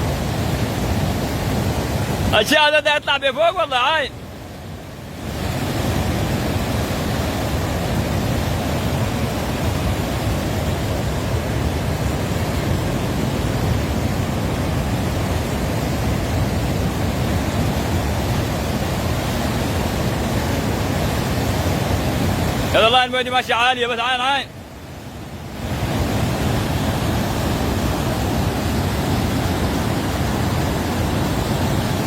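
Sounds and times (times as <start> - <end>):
flood water rushing: 0.0 - 32.0.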